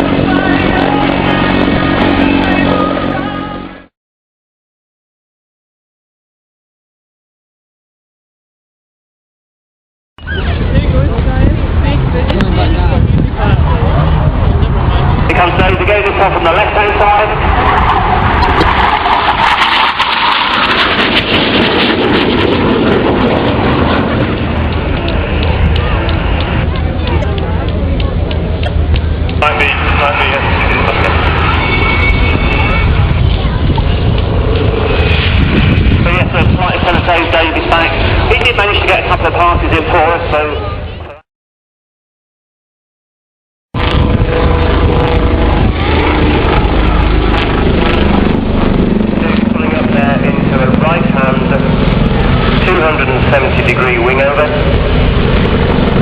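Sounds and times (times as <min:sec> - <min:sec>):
aircraft roaring past: 0:00.0 - 0:03.9, 0:10.2 - 0:41.2, 0:43.8 - 0:56.0.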